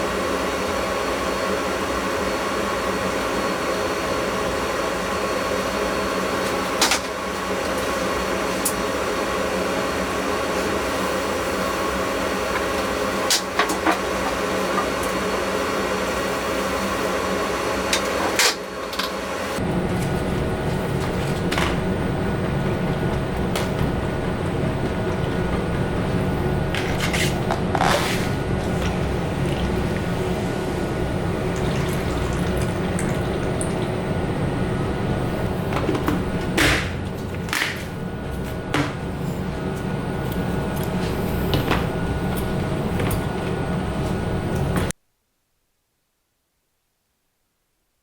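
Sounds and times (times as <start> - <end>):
ventilation hum: 0.0 - 45.3.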